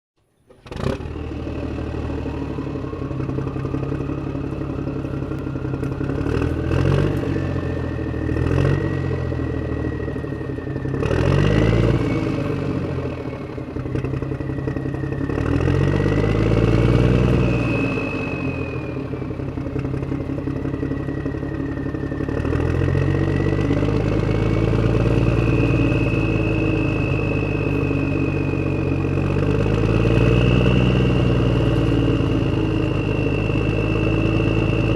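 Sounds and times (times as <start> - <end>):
low rattling hum: 0.2 - 34.9.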